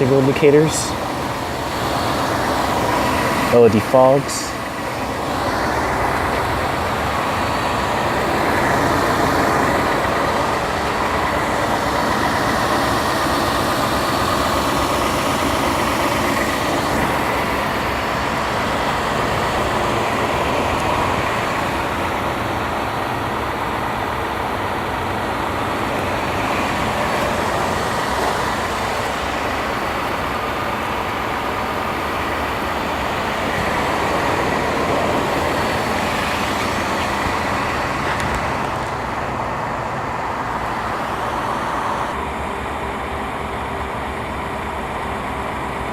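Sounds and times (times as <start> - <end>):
pickup engine idling: 0.0 - 45.9.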